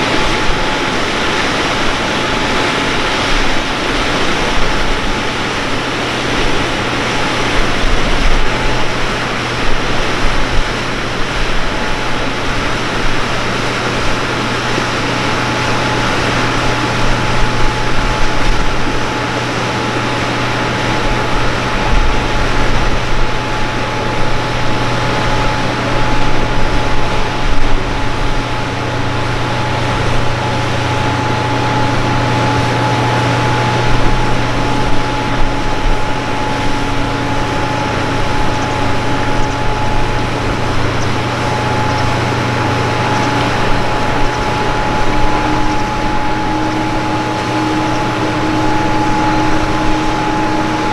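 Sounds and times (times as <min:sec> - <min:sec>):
high whine: 0:00.0 - 0:50.9
mechanical hum: 0:00.0 - 0:50.9
rushing noise: 0:00.0 - 0:50.9.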